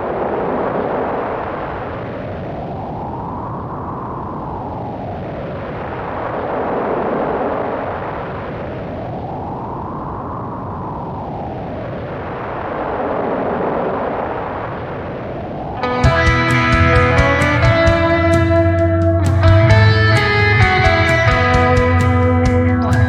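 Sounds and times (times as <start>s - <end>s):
whistling wind: 0.0s - 23.0s.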